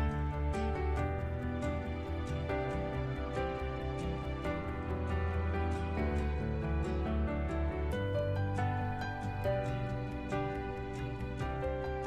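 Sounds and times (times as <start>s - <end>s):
slow melody over bass notes: 0.0s - 12.0s.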